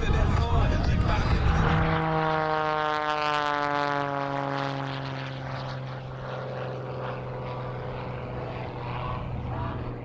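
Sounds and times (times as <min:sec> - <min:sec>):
propeller plane engine running: 0:00.0 - 0:10.0.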